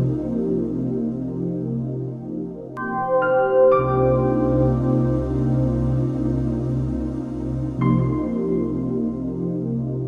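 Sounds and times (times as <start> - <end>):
ambient synthesizer music: 0.0 - 10.0.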